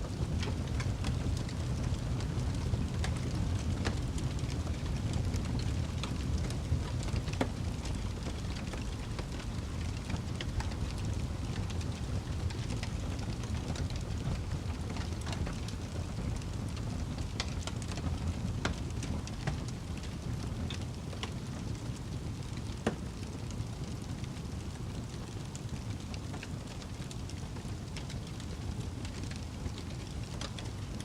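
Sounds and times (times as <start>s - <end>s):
campfire flames rushing: 0.0s - 31.0s
wood crackling and popping: 0.0s - 31.0s.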